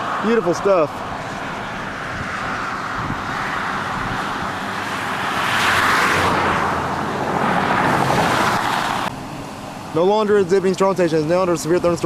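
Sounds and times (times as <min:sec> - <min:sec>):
vehicle passing road noise: 0:00.0 - 0:10.2.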